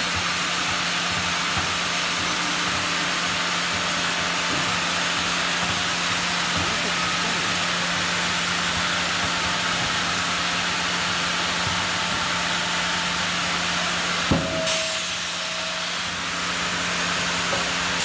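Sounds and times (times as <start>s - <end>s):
sawmill machinery running: 0.0s - 18.0s.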